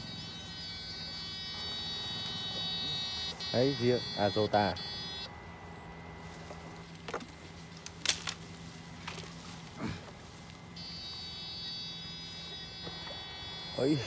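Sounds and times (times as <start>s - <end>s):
electric rig humming: 0.0s - 14.0s
high-pitched whine: 0.0s - 14.0s.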